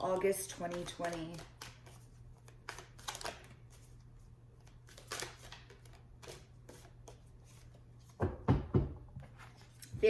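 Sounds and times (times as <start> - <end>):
cards shuffling: 0.0 - 8.2.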